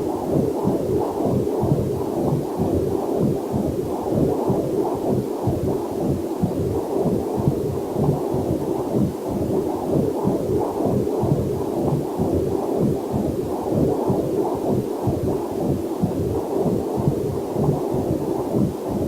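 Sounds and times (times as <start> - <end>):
fetal heartbeat on doppler monitor: 0.0 - 19.0.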